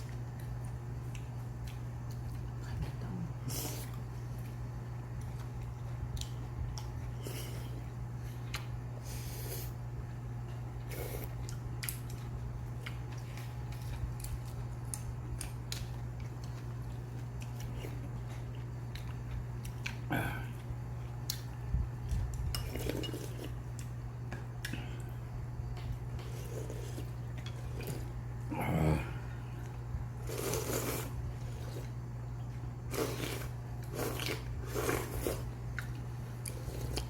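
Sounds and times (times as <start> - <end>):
soft eating sounds: 0.0 - 37.0
steady low hum: 0.0 - 37.0.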